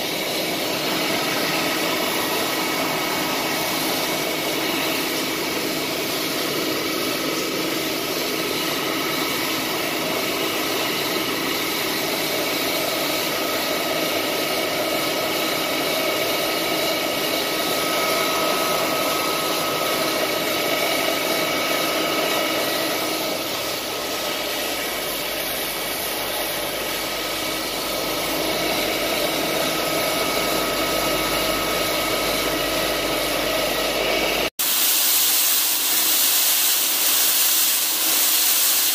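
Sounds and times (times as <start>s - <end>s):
grain loader motor humming: 0.0s - 34.5s
grain pouring into hopper: 0.0s - 38.9s.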